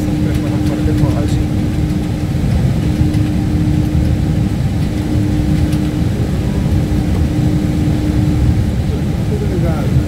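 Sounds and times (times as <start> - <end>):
intermittent hum: 0.0 - 10.0
jet engines low rumble: 0.0 - 10.0.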